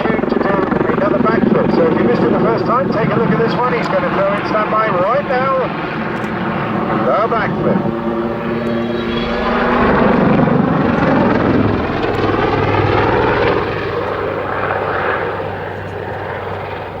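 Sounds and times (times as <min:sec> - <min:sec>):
helicopter rotor and engines: 0:00.0 - 0:17.0.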